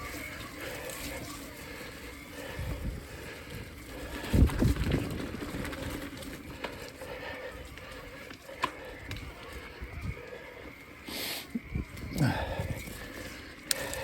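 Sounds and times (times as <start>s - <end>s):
person breathing hard: 0.3s - 5.0s, 5.8s - 14.0s.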